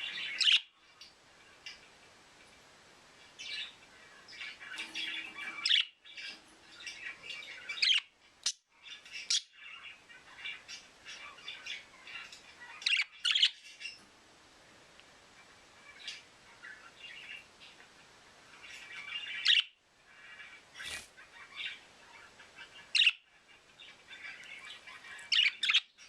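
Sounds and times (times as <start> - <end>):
budgerigars chattering and chirping: 0.0 - 0.8, 3.4 - 14.0, 15.8 - 26.0.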